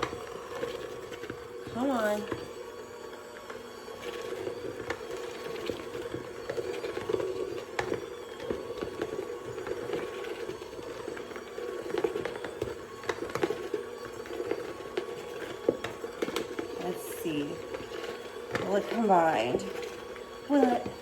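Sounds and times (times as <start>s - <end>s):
electric mixer running: 0.0s - 21.0s.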